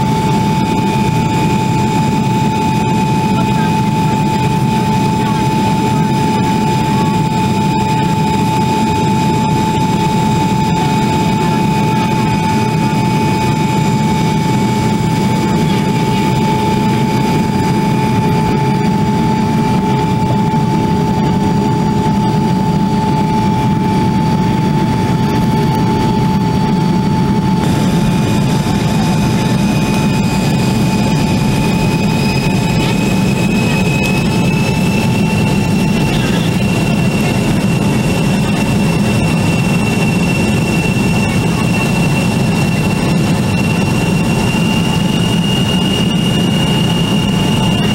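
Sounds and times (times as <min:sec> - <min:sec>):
airliner cabin engine and air rush: 0:00.0 - 0:47.9
high engine whine: 0:00.0 - 0:47.9.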